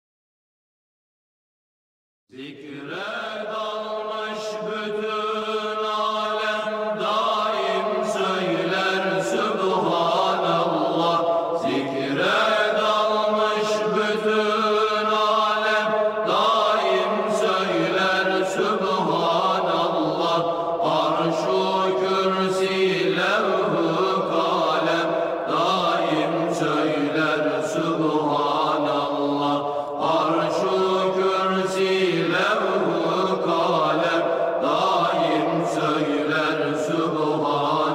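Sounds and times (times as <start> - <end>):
voices chanting long notes: 2.4 - 37.9.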